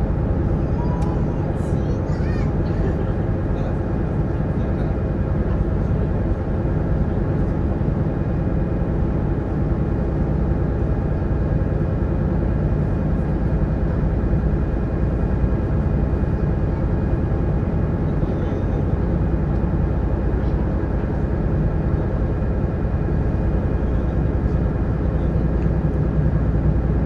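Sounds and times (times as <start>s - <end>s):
boat engine drone: 0.0s - 27.0s.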